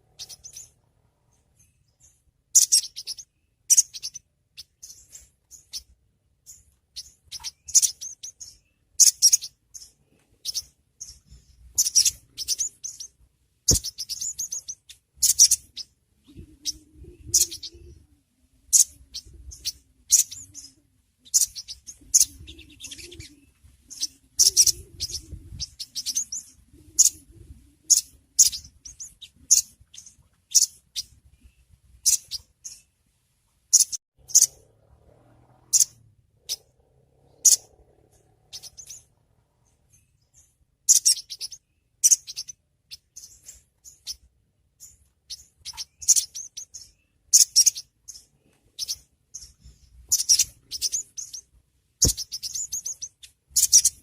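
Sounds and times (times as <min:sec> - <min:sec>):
bird chirping: 0:00.0 - 0:33.1, 0:33.7 - 0:54.0.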